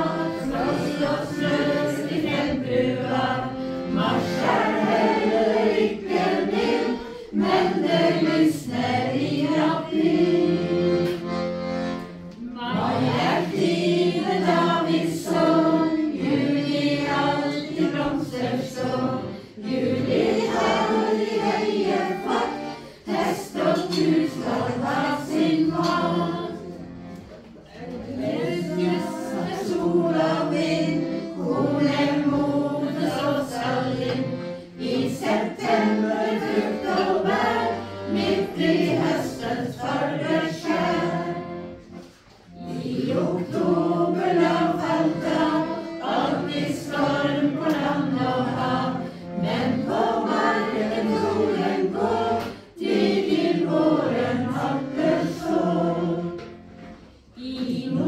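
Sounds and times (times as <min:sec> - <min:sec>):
group of people singing: 0:00.0 - 0:58.0.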